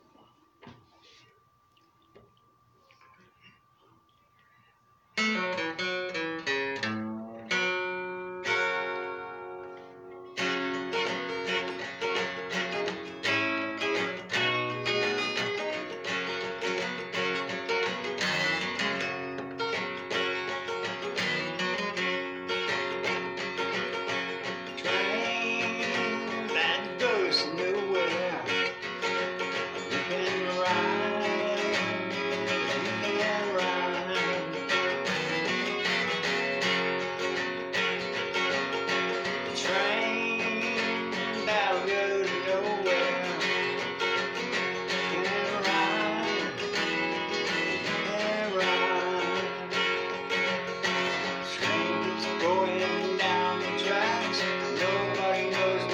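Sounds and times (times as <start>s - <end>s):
acoustic guitar country blues: 5.2s - 55.9s.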